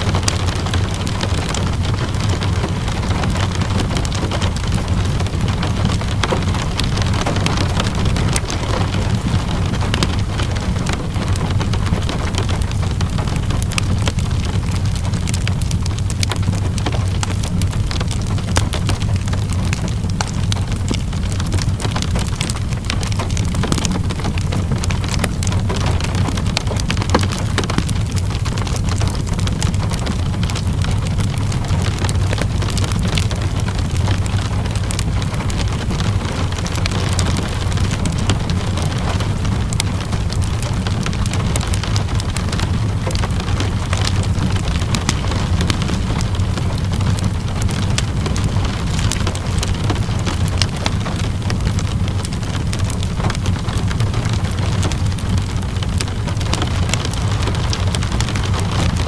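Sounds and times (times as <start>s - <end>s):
steady rain hiss: 0.0s - 59.0s
wood fire crackling: 0.0s - 59.0s.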